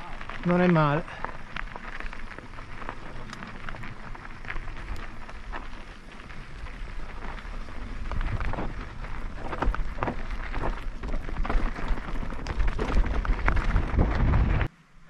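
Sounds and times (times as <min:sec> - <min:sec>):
bike rattles and knocks: 0:00.0 - 0:14.7
bike tyres crunching on gravel: 0:00.0 - 0:14.7
wind rumble on microphone: 0:01.3 - 0:14.7.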